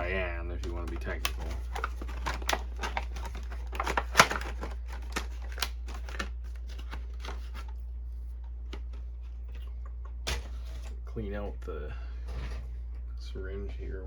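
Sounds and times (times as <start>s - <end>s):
plastic parts and paper rustling: 0.0s - 11.7s
steady low hum: 0.0s - 14.0s.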